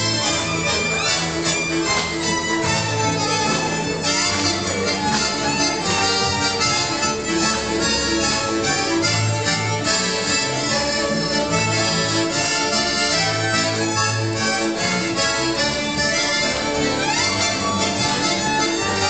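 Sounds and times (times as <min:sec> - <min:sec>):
double bass low notes: 0:00.0 - 0:19.0
folk band playing: 0:00.0 - 0:19.0.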